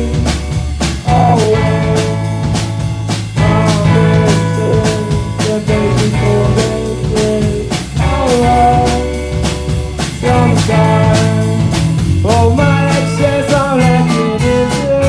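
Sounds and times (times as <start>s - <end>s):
band playing: 0.0s - 15.0s
bending melodic lead line: 0.0s - 15.0s
drum kit beat: 0.0s - 15.0s.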